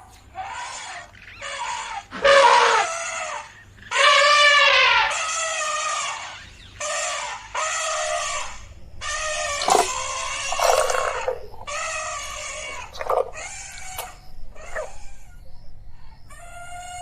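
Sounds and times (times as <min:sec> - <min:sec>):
elephants trumpeting: 0:00.4 - 0:15.2.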